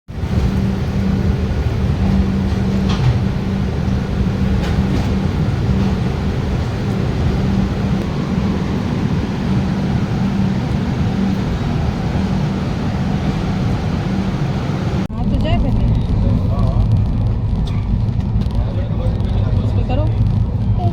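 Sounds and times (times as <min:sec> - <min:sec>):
passenger train rumbling: 0:00.1 - 0:20.9.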